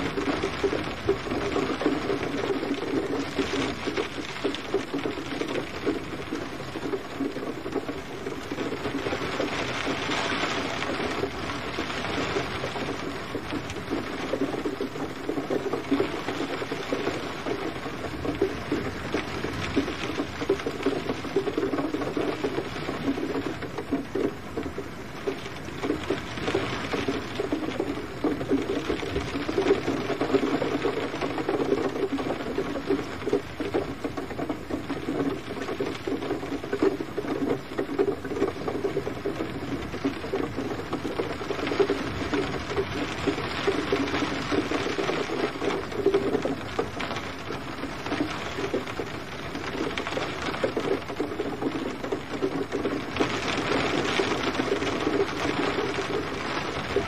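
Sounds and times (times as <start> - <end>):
gentle rain pattering: 0.0 - 57.0.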